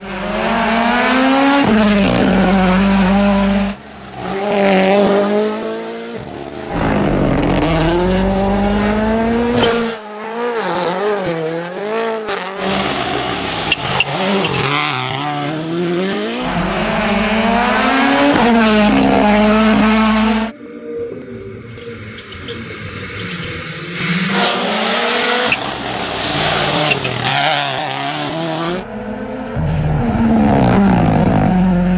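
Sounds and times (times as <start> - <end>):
rally car engines revving: 0.0 - 31.9.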